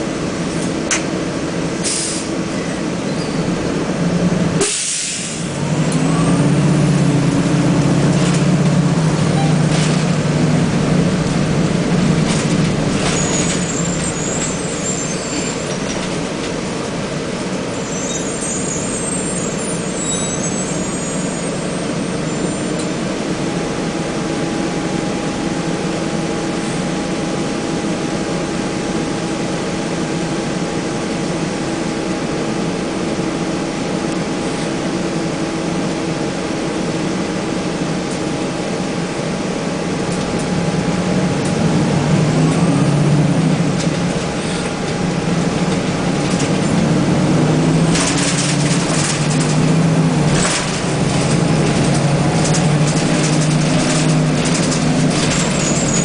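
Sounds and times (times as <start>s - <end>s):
bus engine accelerating: 0.0s - 56.0s.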